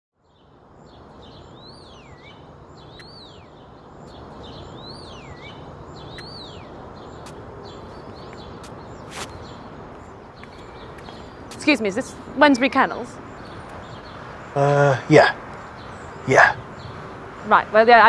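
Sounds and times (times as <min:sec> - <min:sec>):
outdoor background hiss: 0:00.2 - 0:18.0.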